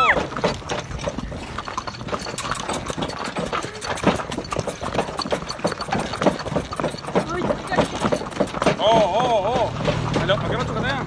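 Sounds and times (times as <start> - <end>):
horse hooves clip-clopping on road: 0.0 - 11.0.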